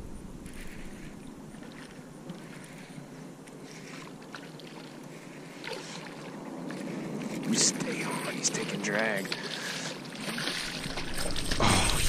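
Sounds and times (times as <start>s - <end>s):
fish splashing and thrashing in water: 0.4s - 12.0s.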